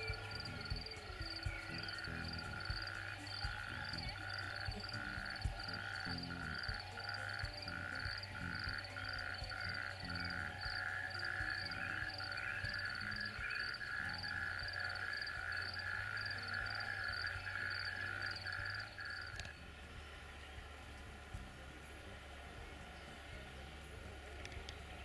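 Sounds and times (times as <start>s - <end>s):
frogs calling: 0.0s - 21.0s
faint birdsong: 0.0s - 25.0s.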